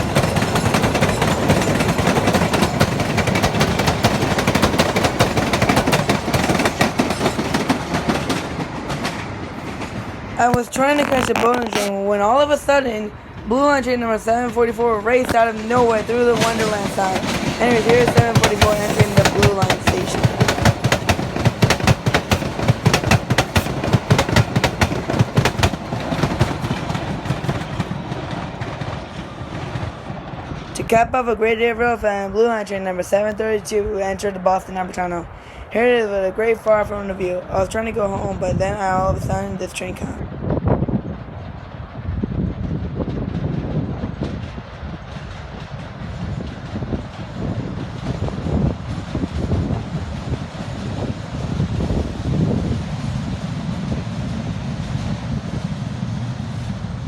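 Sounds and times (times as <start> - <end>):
low train rumble: 0.0 - 57.0
subway train wheels clattering: 0.0 - 57.0.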